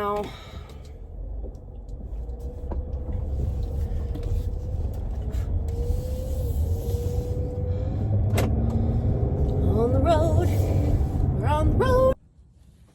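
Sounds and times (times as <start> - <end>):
car engine from inside cabin: 0.0 - 12.8.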